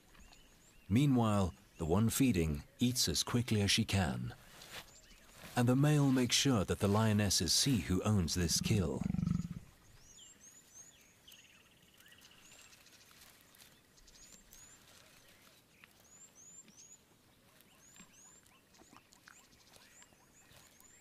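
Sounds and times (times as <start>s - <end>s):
small birds chirping: 0.0s - 2.8s, 6.9s - 21.0s.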